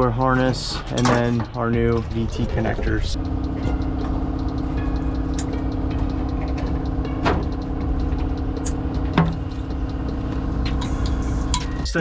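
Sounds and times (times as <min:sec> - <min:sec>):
machine hum with low rumble: 0:00.0 - 0:12.0.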